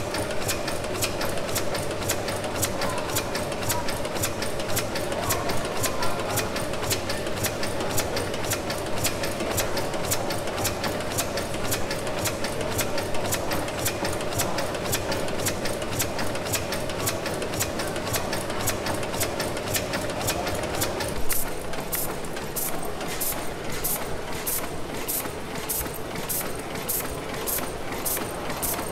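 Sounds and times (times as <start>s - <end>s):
steam engine clicking: 0.0s - 28.9s.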